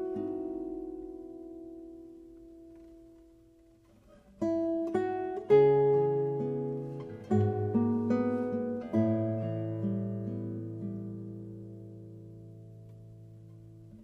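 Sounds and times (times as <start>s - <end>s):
plucked guitar-like string music: 0.0s - 14.0s.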